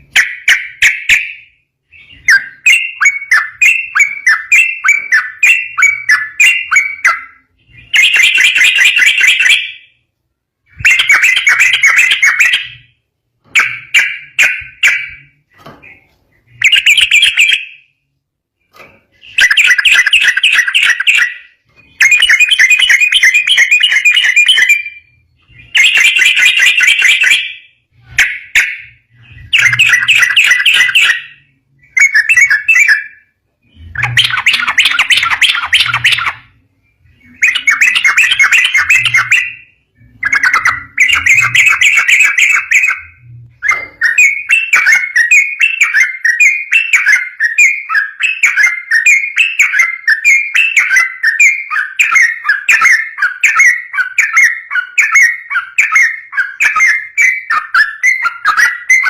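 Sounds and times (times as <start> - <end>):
bulbul rapid chattering song: 0.0 - 9.8, 10.7 - 15.4, 16.5 - 17.8, 19.1 - 33.1, 33.7 - 36.6, 37.2 - 59.0.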